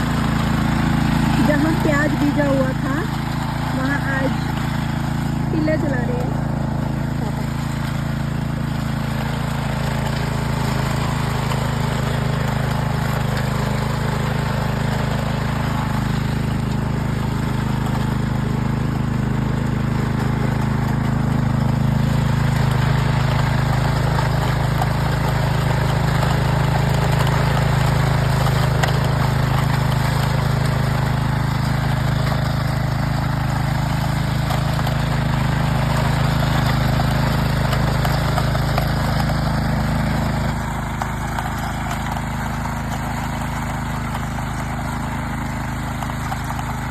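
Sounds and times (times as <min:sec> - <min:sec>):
tiller engine running: 0:00.0 - 0:46.9.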